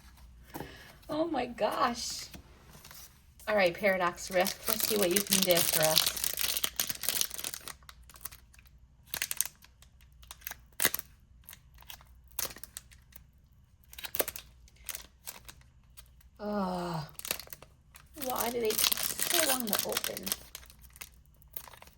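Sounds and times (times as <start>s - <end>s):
foil wrapper crinkling: 2.8s - 16.4s, 17.1s - 21.9s.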